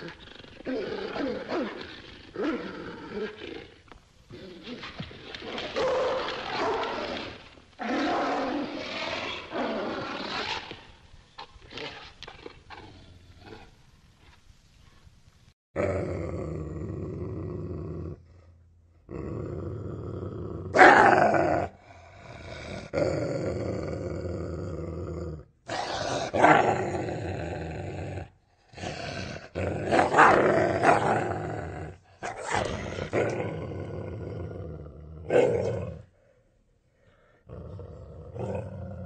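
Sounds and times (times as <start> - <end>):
dog growling and snarling: 0.0 - 10.9, 15.8 - 18.3, 19.1 - 36.2, 37.4 - 39.0.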